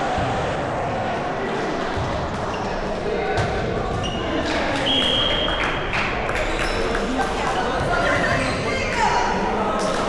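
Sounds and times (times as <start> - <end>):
indoor sports hall background noise: 0.0 - 10.0.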